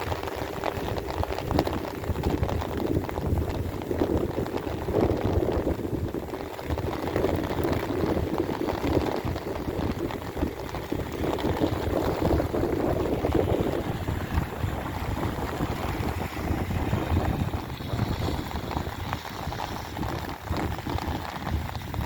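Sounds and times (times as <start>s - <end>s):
heavy rain splashing: 0.0s - 22.0s.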